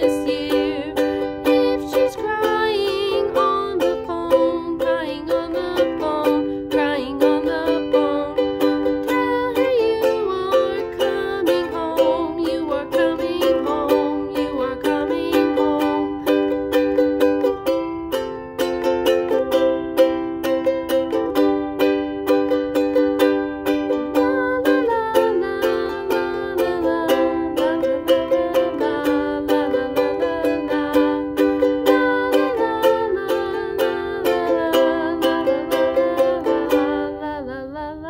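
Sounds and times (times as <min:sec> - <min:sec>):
woman singing: 0:00.0 - 0:17.7, 0:22.9 - 0:38.0
ukulele strumming chords: 0:00.0 - 0:38.0.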